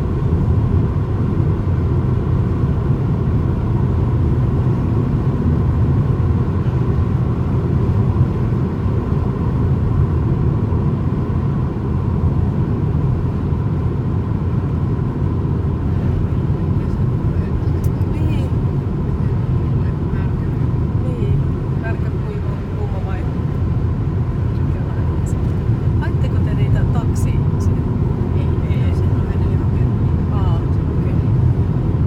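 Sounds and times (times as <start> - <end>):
car interior road noise: 0.0 - 32.0.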